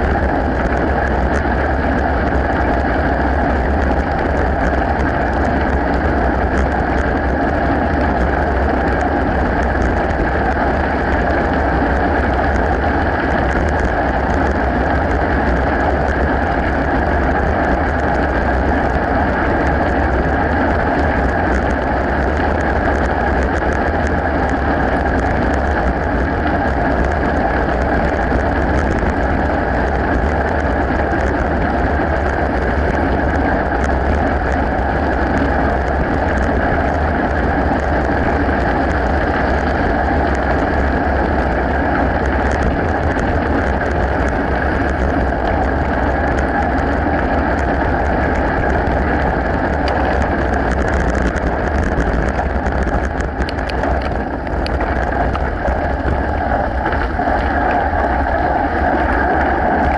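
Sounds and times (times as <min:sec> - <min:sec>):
bike tyres rolling on gravel: 0:00.0 - 0:59.9
wind on microphone: 0:00.0 - 0:59.9.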